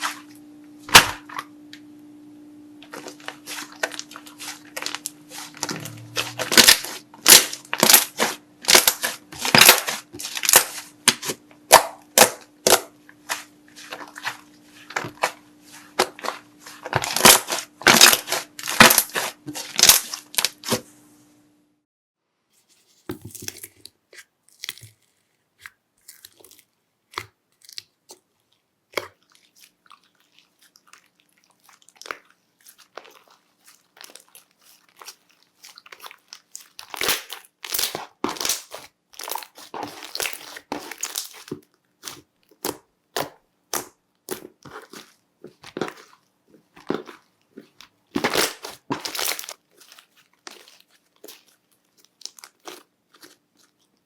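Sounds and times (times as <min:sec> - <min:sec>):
slime crackling and popping: 0:02.9 - 0:20.8, 0:24.5 - 0:54.0.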